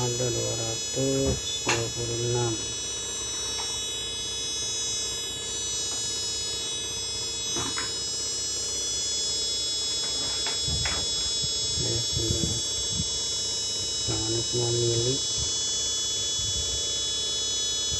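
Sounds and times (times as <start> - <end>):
power supply whining: 0.0 - 17.9.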